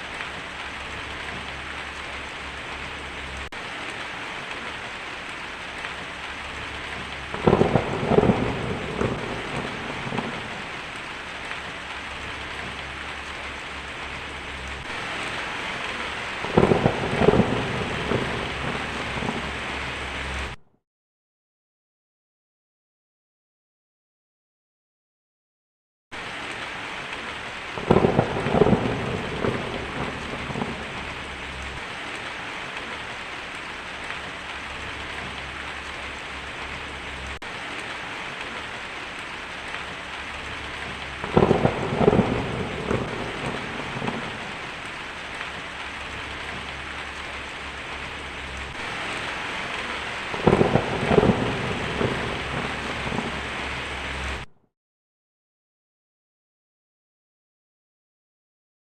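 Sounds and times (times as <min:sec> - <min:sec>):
heavy rain on a tin roof: 0:00.0 - 0:20.6, 0:26.2 - 0:54.5
thunder cracking and rumbling: 0:00.0 - 0:20.6, 0:26.2 - 0:54.5.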